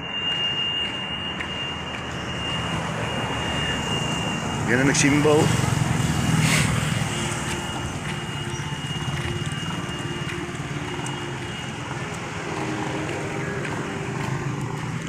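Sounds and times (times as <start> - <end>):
engine running: 0.0 - 15.0
thin high whine: 0.0 - 15.0.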